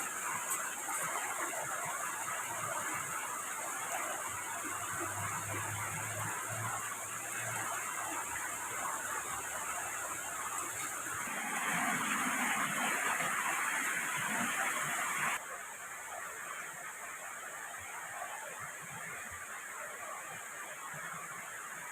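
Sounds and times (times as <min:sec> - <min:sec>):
rushing water hiss: 0:00.0 - 0:21.9.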